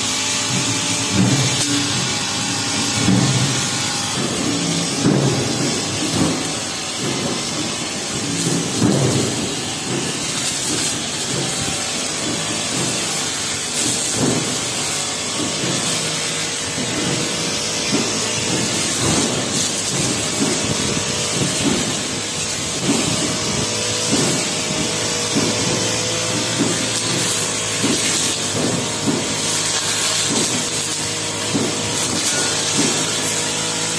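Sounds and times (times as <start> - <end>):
blade slashing through grass: 0.0 - 33.9
brush cutter running: 0.0 - 33.9.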